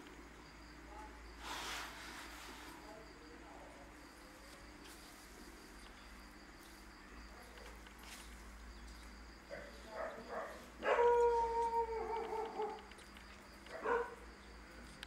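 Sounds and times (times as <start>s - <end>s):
insect-like chirring: 0.0s - 15.0s.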